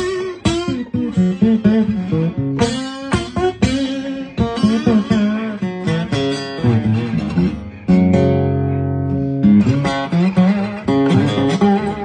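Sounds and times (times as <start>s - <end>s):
acoustic guitar picking: 0.0s - 12.0s
guitar chord ringing: 0.0s - 12.0s.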